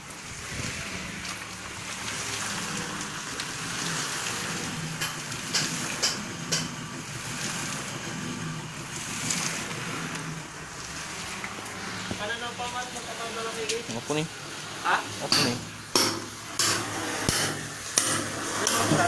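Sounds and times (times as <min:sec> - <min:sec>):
truck engine and suction pump: 0:00.0 - 0:19.0.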